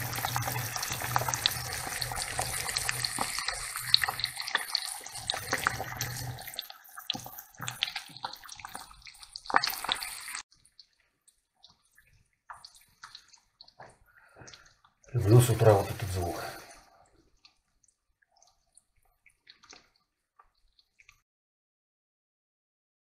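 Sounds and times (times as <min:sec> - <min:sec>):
eggs sizzling in hot oil: 0:00.0 - 0:21.2.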